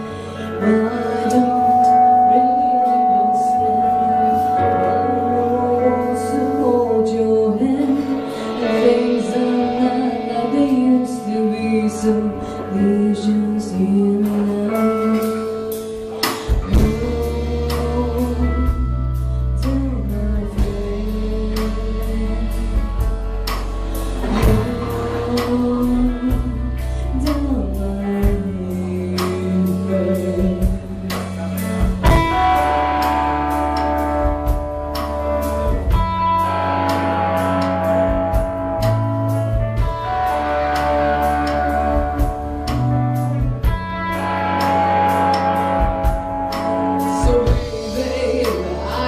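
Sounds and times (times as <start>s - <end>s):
band playing instrumental: 0.0s - 49.0s
drum kit: 0.0s - 49.0s
guitar: 0.0s - 49.0s
low bass line: 0.0s - 49.0s.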